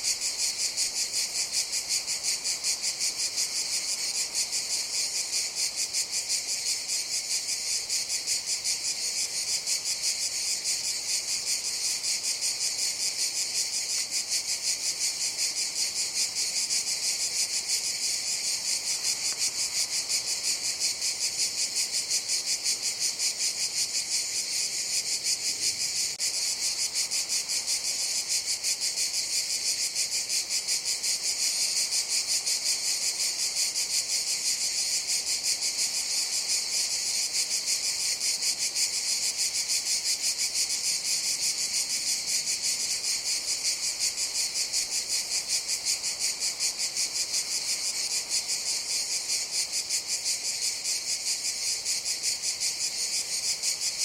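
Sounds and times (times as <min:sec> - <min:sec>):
cicadas calling: 0:00.0 - 0:54.0.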